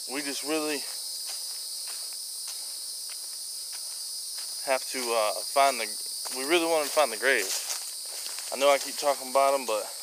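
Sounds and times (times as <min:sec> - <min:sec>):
faint footsteps on trail: 0:00.0 - 0:10.0
insects chorus: 0:00.0 - 0:10.0.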